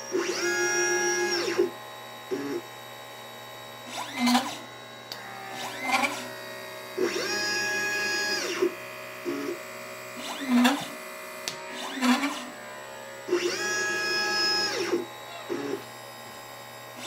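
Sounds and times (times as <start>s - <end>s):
stepper motors whining: 0.0s - 2.7s, 3.8s - 17.0s.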